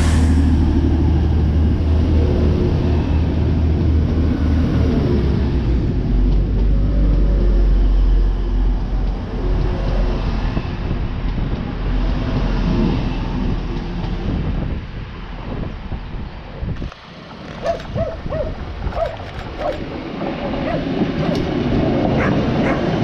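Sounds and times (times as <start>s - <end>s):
low diesel train drone: 0.0s - 23.0s
wheel and rail noise: 0.0s - 23.0s.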